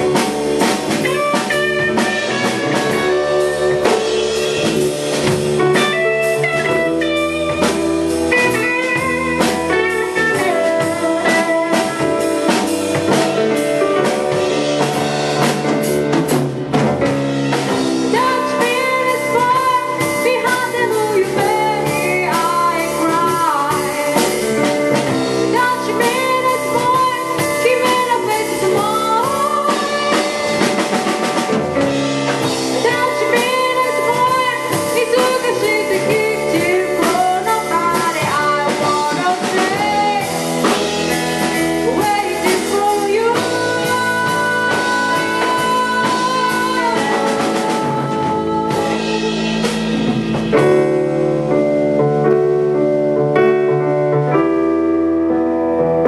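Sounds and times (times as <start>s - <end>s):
drum kit: 0.0s - 56.0s
electric bass: 0.0s - 56.0s
electric guitar: 0.0s - 56.0s
keyboard chords: 0.0s - 56.0s.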